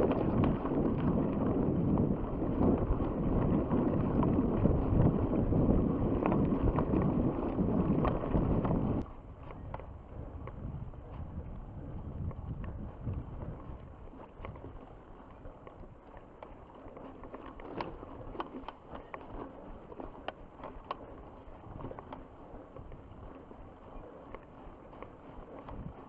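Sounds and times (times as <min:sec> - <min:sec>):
bike clicking and rattling: 0:00.0 - 0:26.0
tyre and wind rumble: 0:00.0 - 0:26.0.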